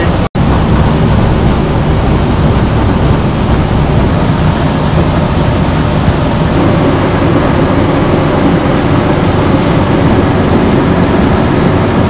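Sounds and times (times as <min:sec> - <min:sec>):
boat engine rumble: 0:00.0 - 0:12.0
sea: 0:00.0 - 0:12.0
wind: 0:00.0 - 0:12.0.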